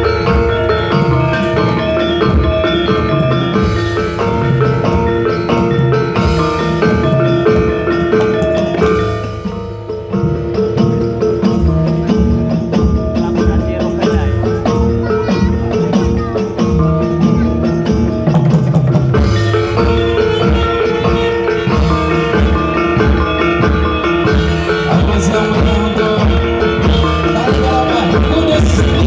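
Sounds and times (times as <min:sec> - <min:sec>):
metal-keyed mallet instruments: 0:00.0 - 0:29.0
steady drumming: 0:00.0 - 0:29.0.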